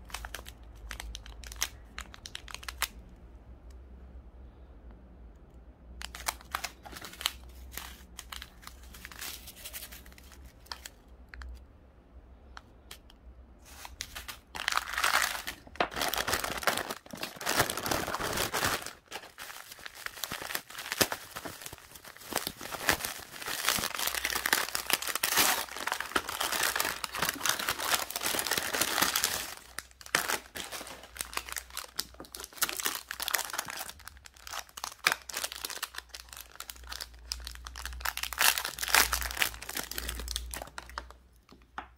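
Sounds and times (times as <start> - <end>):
plastic packaging crinkling: 0.0 - 3.0, 6.0 - 11.6, 13.6 - 41.2.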